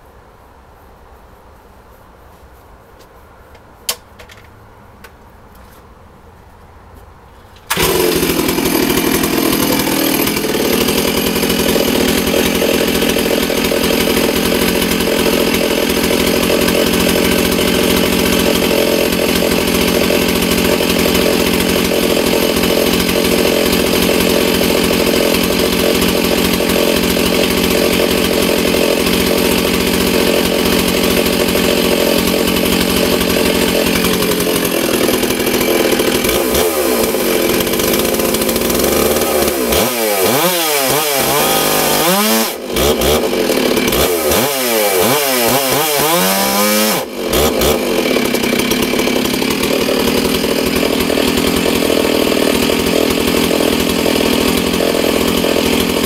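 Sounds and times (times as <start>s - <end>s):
chainsaw starting and idling: 7.6s - 56.0s.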